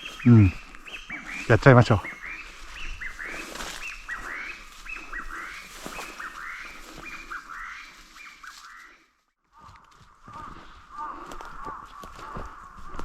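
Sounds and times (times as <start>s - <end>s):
partridge calling repeated notes: 0.0s - 13.0s.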